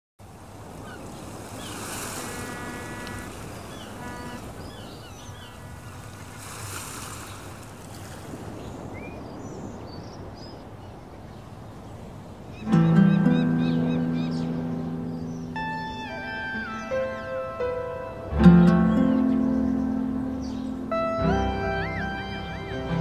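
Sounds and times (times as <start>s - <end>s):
ocean surf washing ashore: 0.2s - 23.0s
birds calling and chirping: 0.6s - 23.0s.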